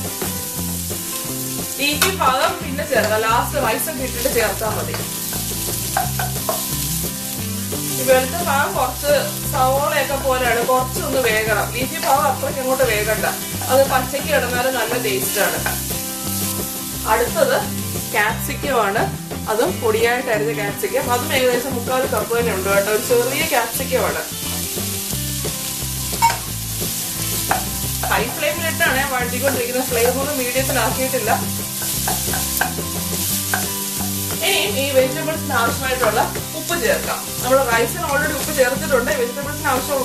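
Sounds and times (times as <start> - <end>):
wooden spatula scraping wok: 0.0 - 19.6, 21.0 - 39.2
background music: 0.0 - 40.0
vegetables sizzling in hot oil: 0.0 - 40.0.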